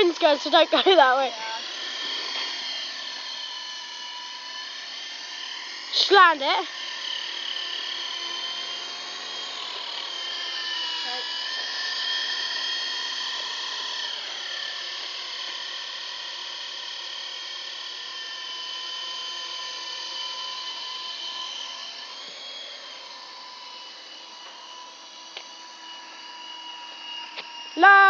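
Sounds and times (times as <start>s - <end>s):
toy helicopter motor whining: 0.0s - 28.0s.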